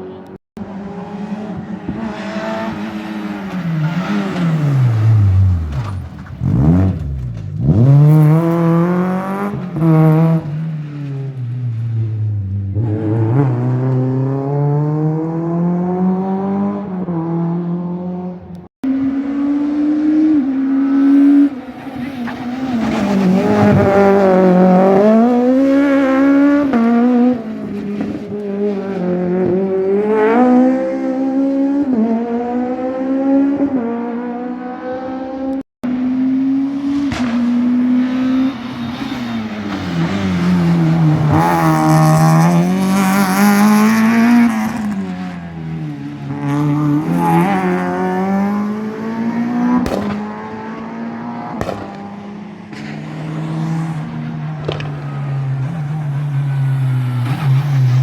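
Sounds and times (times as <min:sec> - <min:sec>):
car engine at high revs: 0:00.0 - 0:11.8, 0:12.4 - 0:58.0
rally cars racing past: 0:00.0 - 0:58.0.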